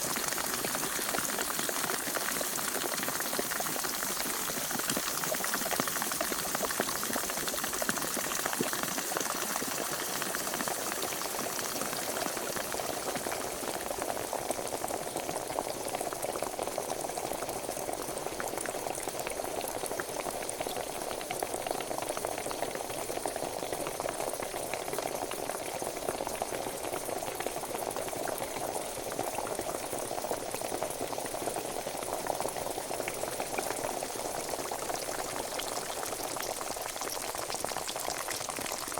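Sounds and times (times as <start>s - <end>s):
water boiling in a pot: 0.0s - 38.9s.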